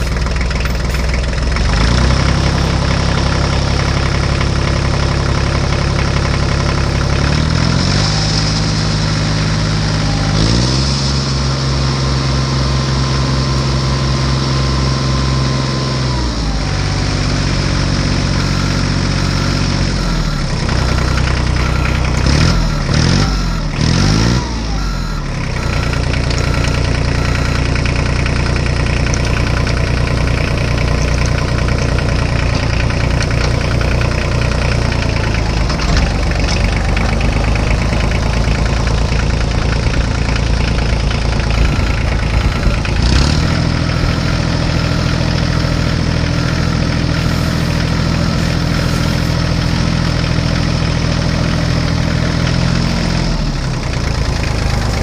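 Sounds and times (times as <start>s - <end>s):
vehicle engine idling and revving: 0.0s - 55.0s.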